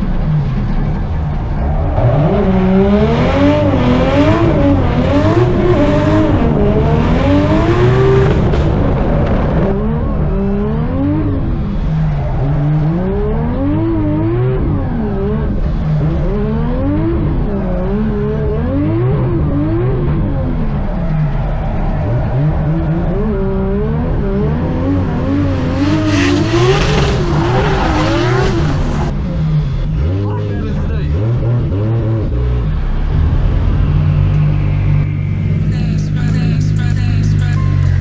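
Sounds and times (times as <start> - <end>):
loud tyre noise: 0.0 - 30.3, 31.0 - 38.0
car engine revving: 0.0 - 38.0.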